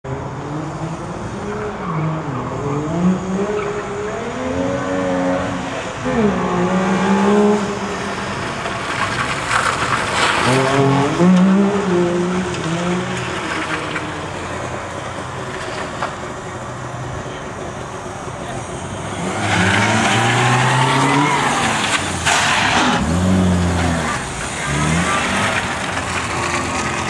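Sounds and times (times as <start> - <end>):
tyres skidding: 0.1 - 27.0
car engine revving: 0.2 - 27.0.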